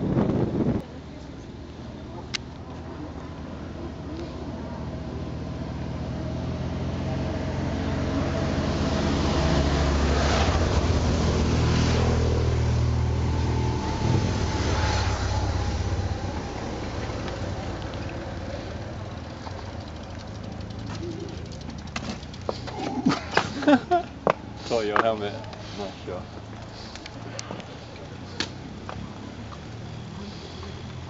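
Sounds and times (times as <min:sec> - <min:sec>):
vehicle engine passing by: 0:00.0 - 0:31.0.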